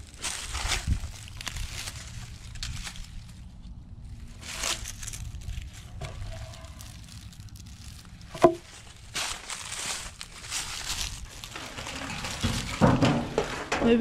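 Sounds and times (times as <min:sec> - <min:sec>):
rustling leaves as board lifted: 0:00.0 - 0:03.4, 0:04.2 - 0:14.0
footsteps crunching dry leaves: 0:00.0 - 0:12.9.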